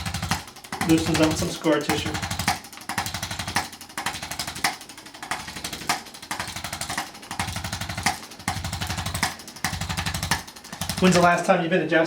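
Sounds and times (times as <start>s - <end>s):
adjusting instrument rapidly tapping: 0.0s - 11.6s.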